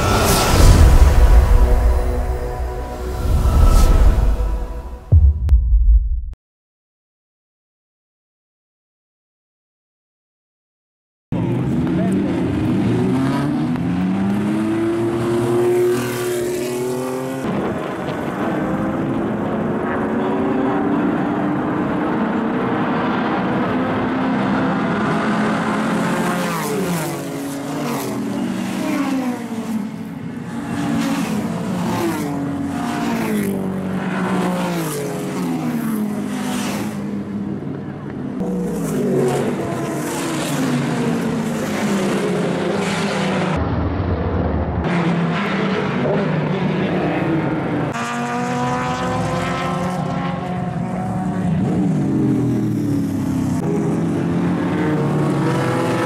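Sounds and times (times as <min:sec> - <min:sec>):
racing car engines: 0:00.0 - 0:05.1, 0:11.3 - 0:56.0.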